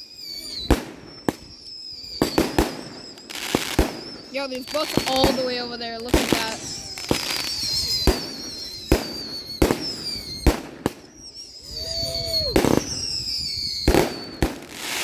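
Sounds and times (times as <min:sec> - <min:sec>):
falling firework whistle: 0:00.0 - 0:15.0
fireworks bangs: 0:00.0 - 0:15.0.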